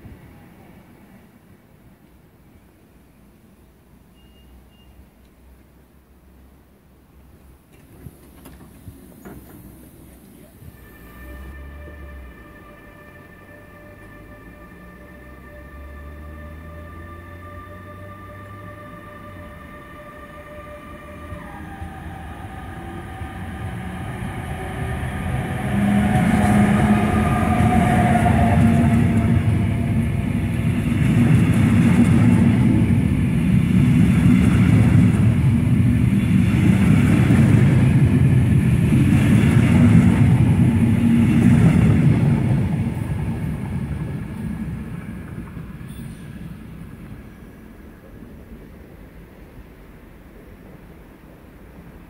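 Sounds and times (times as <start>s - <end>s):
wheels rumbling on rail: 0.0s - 52.0s
train passing: 5.3s - 52.0s.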